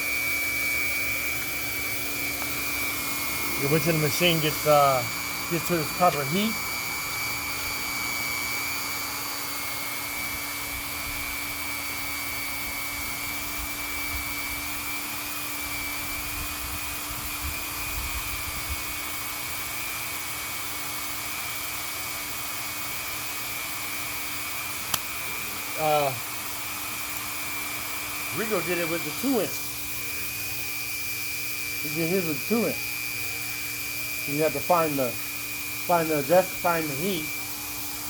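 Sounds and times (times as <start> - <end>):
hot-air blower rushing: 0.0 - 38.0.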